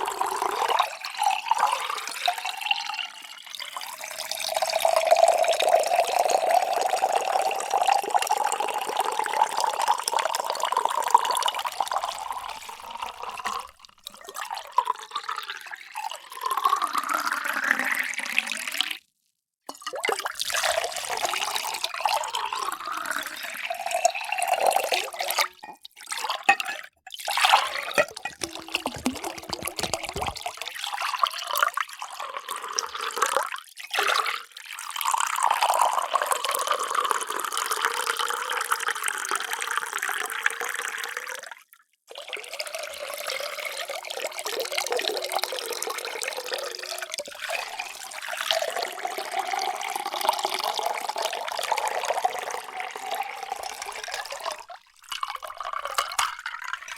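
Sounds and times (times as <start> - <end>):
water pouring into vessel: 0.0 - 19.0, 19.7 - 41.5, 42.1 - 56.9.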